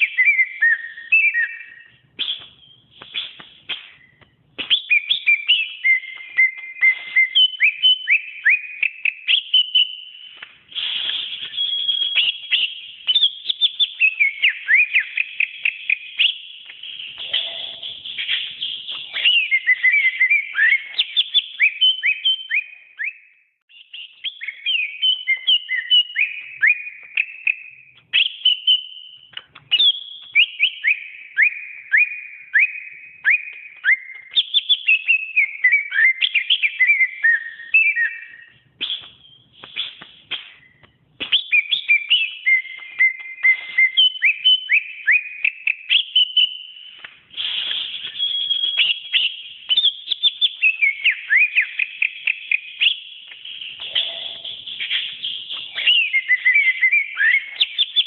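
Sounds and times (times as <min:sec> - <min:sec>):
bird whistling song: 0:00.0 - 0:58.0.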